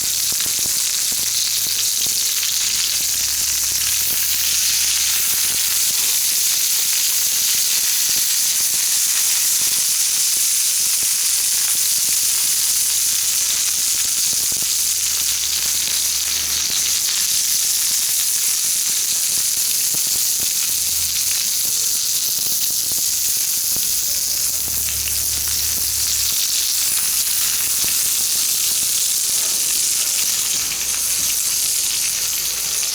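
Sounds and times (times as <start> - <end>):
mushrooms sizzling in oil: 0.0 - 32.9.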